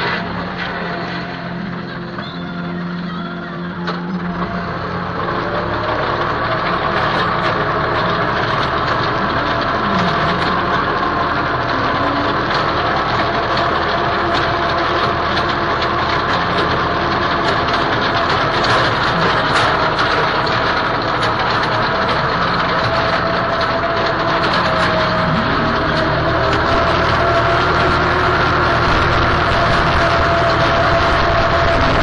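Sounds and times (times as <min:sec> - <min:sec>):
rotary tiller clatter: 0:00.0 - 0:32.0
tractor engine running: 0:00.0 - 0:32.0.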